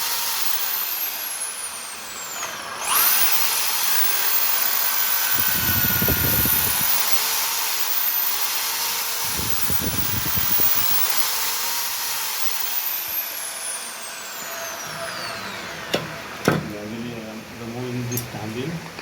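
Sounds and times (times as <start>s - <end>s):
power tool whining: 0.0s - 16.7s.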